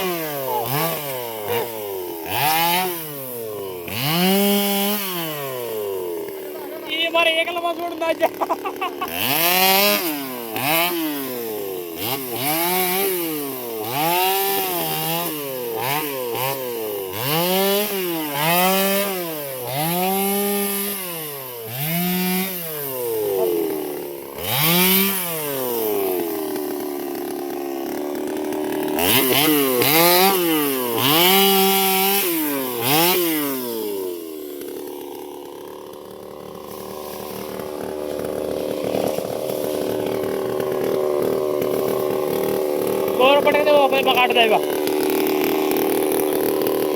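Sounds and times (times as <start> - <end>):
chainsaw revving while sawing: 0.0 - 46.9.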